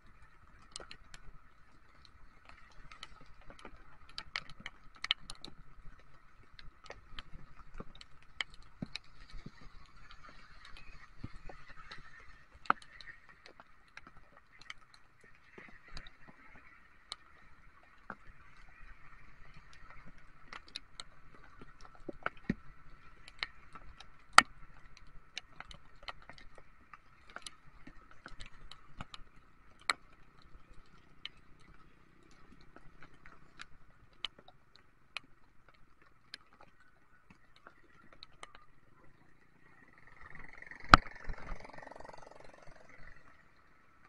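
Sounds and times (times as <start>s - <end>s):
raindrops ticking on windscreen: 0.0s - 44.0s.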